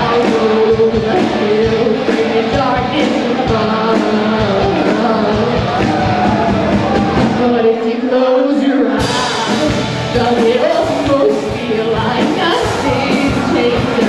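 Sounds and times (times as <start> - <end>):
woman singing: 0.0 - 6.1, 7.2 - 14.0
live rock band playing: 0.0 - 7.7, 9.0 - 14.0.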